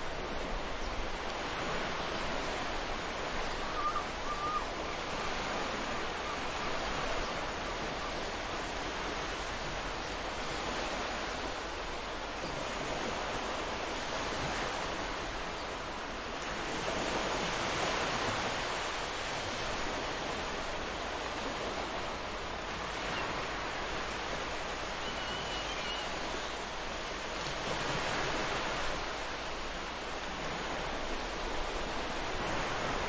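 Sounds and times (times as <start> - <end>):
ocean surf breaking on beach: 0.0 - 33.0.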